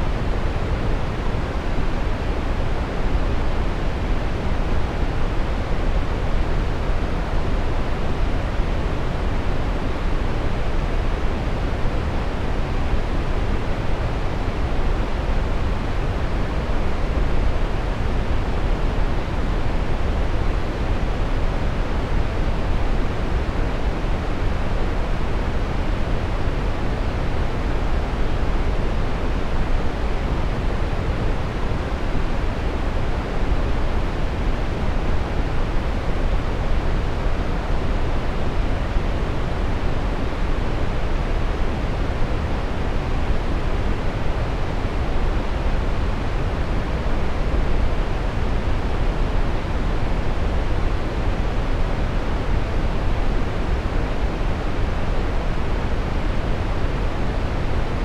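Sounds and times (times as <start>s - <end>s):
steady brown noise: 0.0s - 58.0s.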